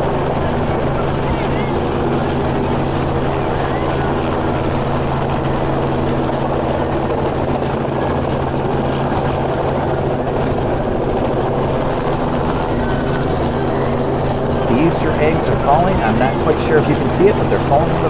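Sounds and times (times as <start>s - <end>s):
helicopter drone overhead: 0.0s - 18.0s.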